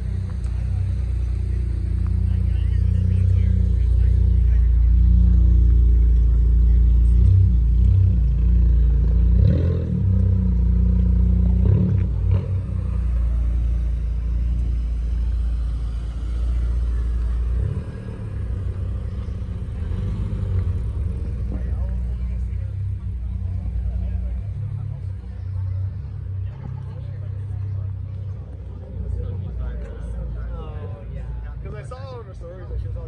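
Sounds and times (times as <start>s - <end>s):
car engine rumbling: 0.0s - 33.0s.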